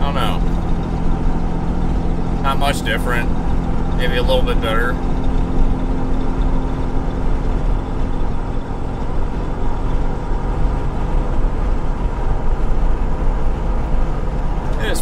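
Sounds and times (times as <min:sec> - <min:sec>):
diesel engine drone: 0:00.0 - 0:15.0
road rumble: 0:00.0 - 0:15.0.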